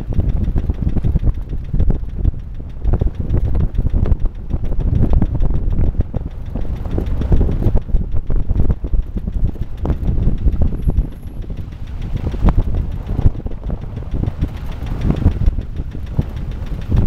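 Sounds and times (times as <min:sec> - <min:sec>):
engine and tyre rumble: 0:00.0 - 0:17.0
vehicle knocks and rattles: 0:00.0 - 0:17.0.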